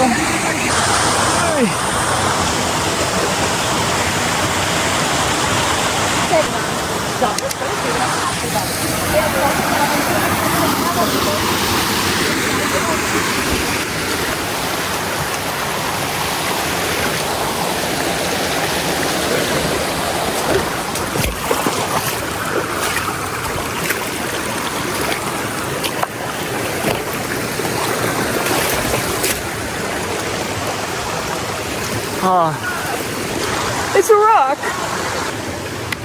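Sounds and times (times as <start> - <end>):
small waterfall splashing: 0.0 - 36.0.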